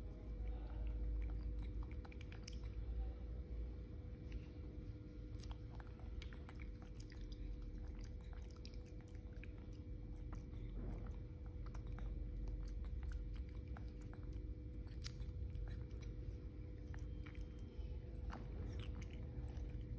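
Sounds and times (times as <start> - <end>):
monkey chewing clicks and smacks: 0.4 - 2.8, 4.1 - 19.9.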